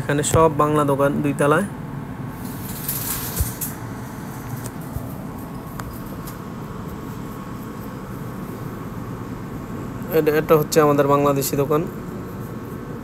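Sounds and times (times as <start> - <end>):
faint steady whine: 0.0 - 13.0
low hum of traffic: 0.0 - 13.0.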